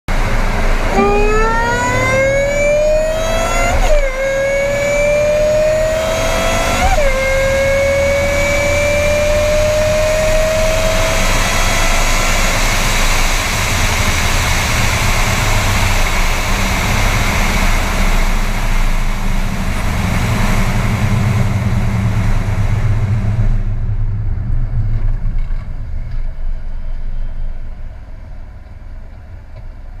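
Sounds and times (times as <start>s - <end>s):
car engine accelerating: 0.1s - 30.0s.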